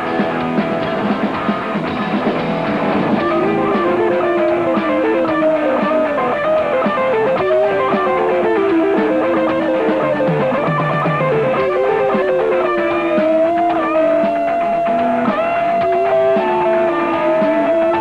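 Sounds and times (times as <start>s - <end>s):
drums: 0.0s - 18.0s
strummed electric guitar: 0.0s - 18.0s
bending melody line: 1.0s - 18.0s.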